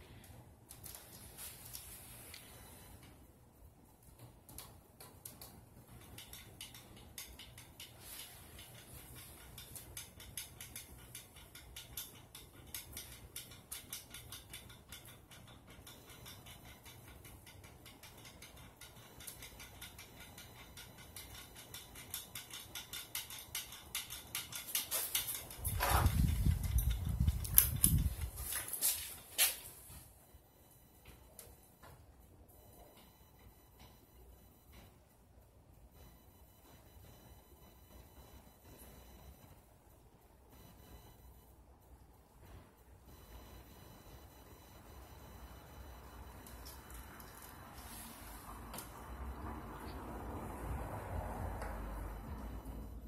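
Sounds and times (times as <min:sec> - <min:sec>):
ceiling fan humming and ticking: 0:00.0 - 0:53.0.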